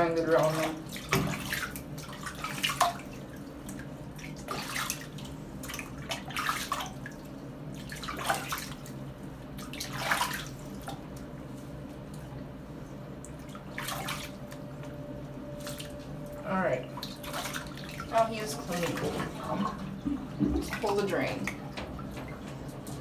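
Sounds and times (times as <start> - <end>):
bath water splashing: 0.0 - 23.0.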